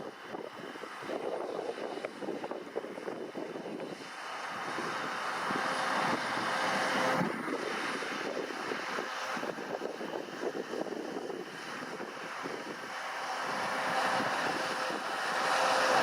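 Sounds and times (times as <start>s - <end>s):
combine harvester running: 0.0s - 16.0s
wind buffeting microphone: 0.0s - 16.0s.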